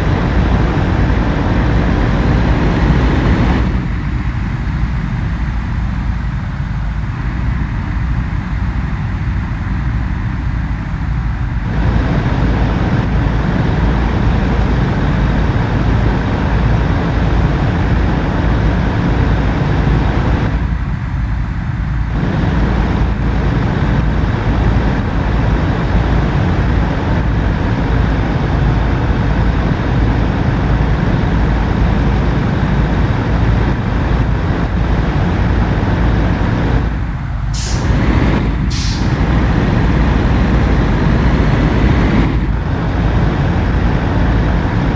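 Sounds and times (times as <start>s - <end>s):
road noise: 0.0s - 44.9s
truck engine rumble: 0.0s - 44.9s.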